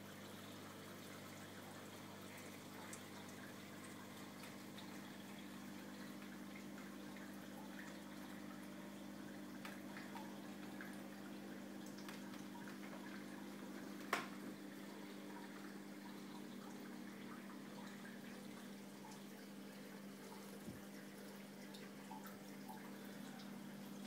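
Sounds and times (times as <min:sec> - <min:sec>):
aquarium pumps humming: 0:00.0 - 0:24.0
water trickling and dripping: 0:00.0 - 0:24.0.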